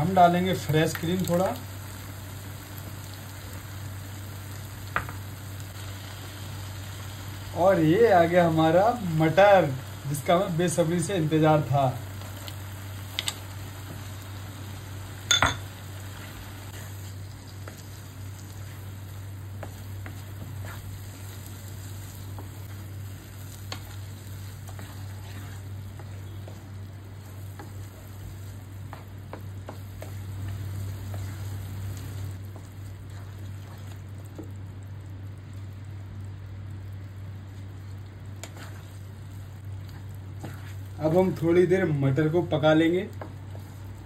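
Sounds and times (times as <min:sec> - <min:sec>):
gravy sizzling in a pan: 0:00.0 - 0:44.0
steady low hum: 0:00.0 - 0:44.0.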